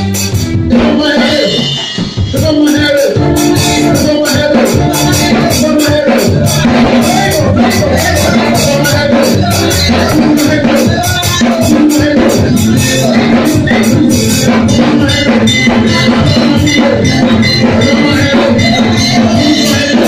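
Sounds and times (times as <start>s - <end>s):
drums and percussion beat: 0.0s - 20.0s
gospel music through loudspeakers: 0.0s - 20.0s
man singing into microphone: 0.0s - 20.0s.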